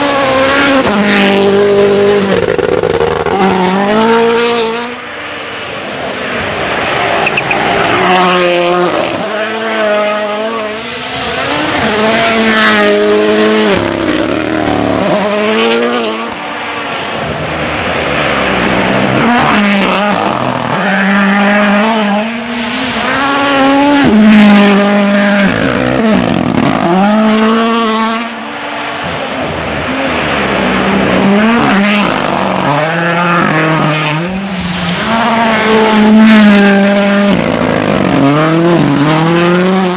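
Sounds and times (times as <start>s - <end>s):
rally car engines at full throttle: 0.0s - 39.9s.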